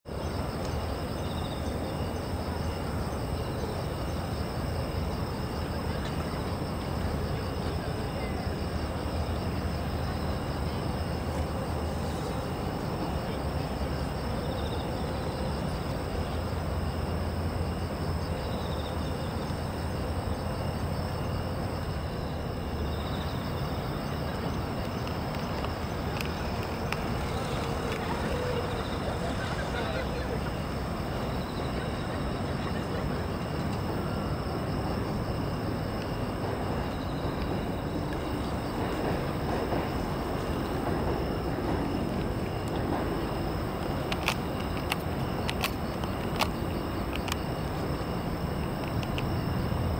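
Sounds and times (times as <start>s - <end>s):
city traffic rumble: 0.0s - 49.9s
insects trilling: 0.1s - 49.9s.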